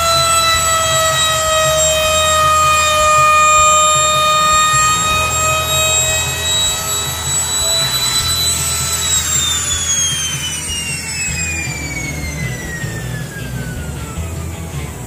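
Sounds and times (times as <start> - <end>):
electric router whining: 0.0 - 15.0.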